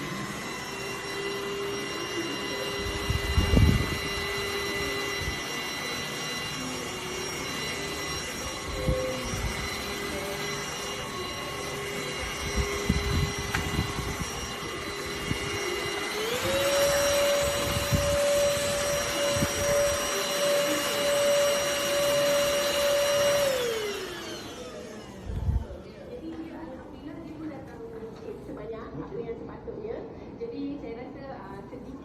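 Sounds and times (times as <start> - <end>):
vacuum cleaner motor whine: 0.0 - 28.2.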